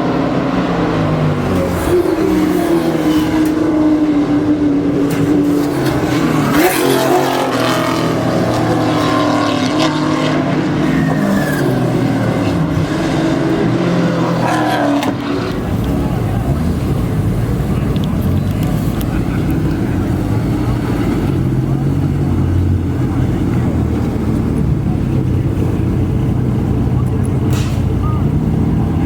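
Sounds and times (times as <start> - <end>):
race car passing close by: 0.0 - 29.0
racing car engines: 0.0 - 29.0.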